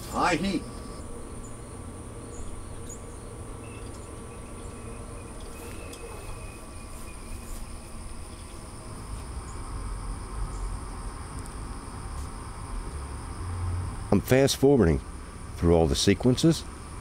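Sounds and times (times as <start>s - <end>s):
high whine: 0.0s - 16.2s
blower hum: 0.0s - 17.0s.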